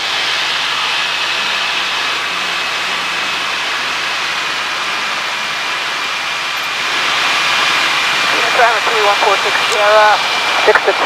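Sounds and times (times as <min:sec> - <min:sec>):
airplane engine and propeller: 0:00.0 - 0:11.0.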